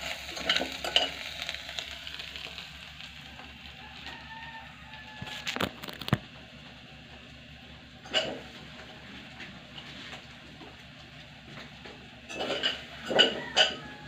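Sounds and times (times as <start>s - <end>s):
food crackling: 0.0s - 14.0s.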